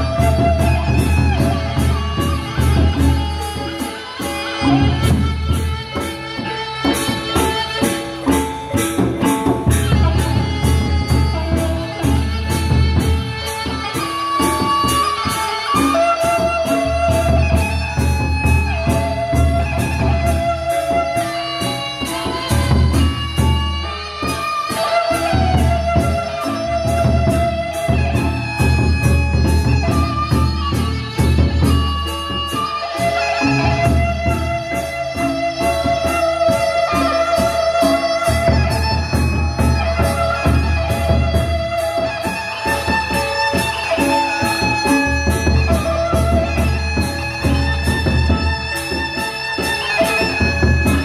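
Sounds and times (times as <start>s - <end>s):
barrel drums beating: 0.0s - 51.0s
hand cymbals clashing: 0.0s - 51.0s
held melodic line: 0.0s - 51.0s.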